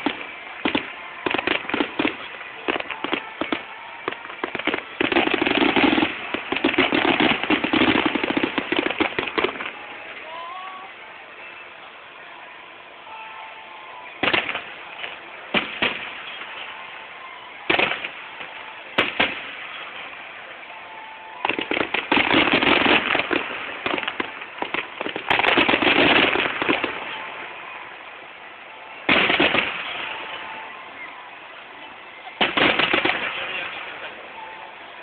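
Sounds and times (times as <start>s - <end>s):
fireworks bangs and crackle: 0.0s - 10.3s, 14.2s - 31.1s, 32.2s - 35.0s.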